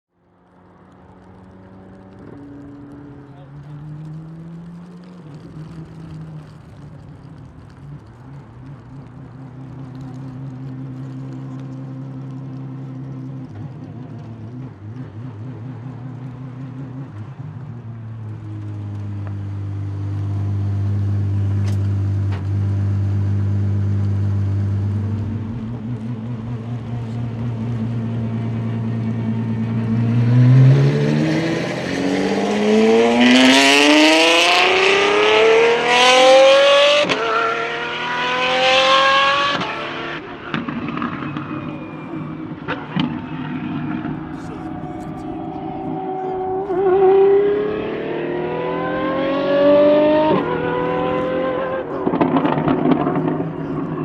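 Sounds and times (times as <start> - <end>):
sports car engine revving: 1.0 - 54.0.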